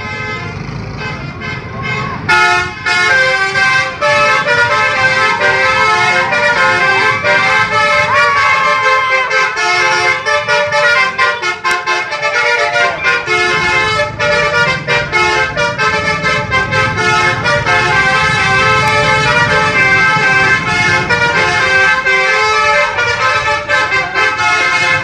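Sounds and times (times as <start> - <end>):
multi-tone bus horn melody: 0.0 - 25.0.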